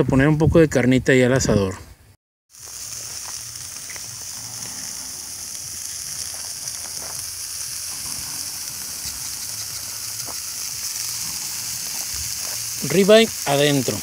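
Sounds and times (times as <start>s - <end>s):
meat sizzling on a grill: 2.5s - 14.0s.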